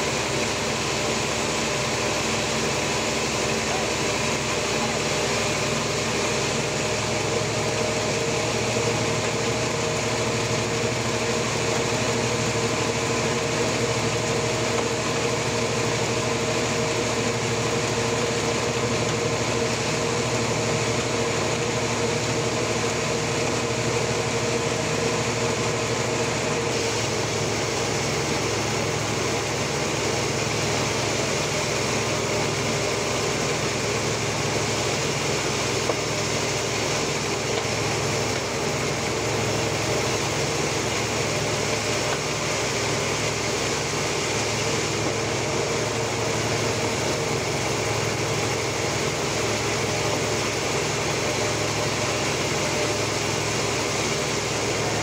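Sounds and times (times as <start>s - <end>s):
constant mechanical whine: 0.0s - 55.0s
sawmill machinery humming: 0.0s - 55.0s.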